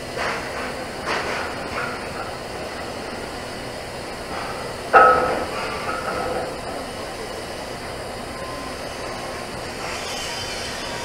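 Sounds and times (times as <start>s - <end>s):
welding arc hissing: 0.0s - 11.0s.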